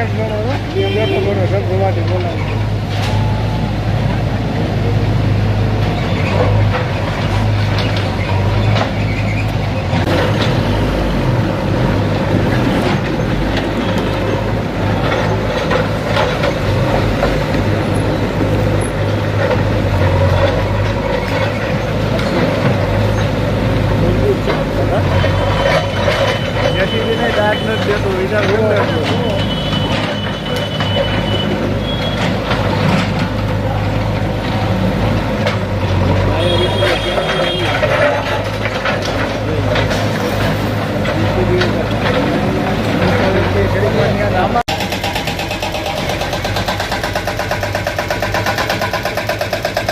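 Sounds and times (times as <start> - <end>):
heavy vehicle engine rumble: 0.0 - 49.9.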